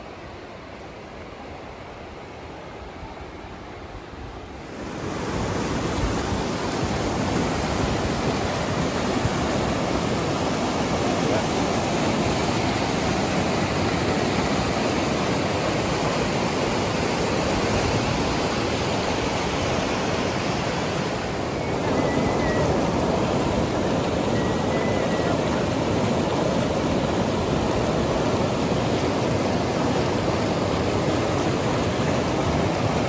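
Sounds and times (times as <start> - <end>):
river rushing over rocks: 3.6 - 33.0.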